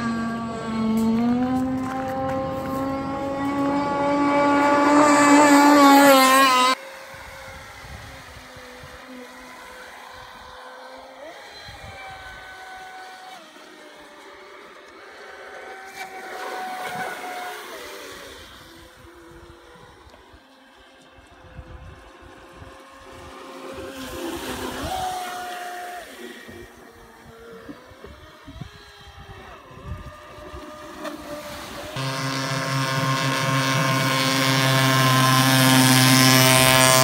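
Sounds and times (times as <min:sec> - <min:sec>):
faint model boat motor: 0:00.0 - 0:37.0
model boat motor high-pitched: 0:00.0 - 0:37.0.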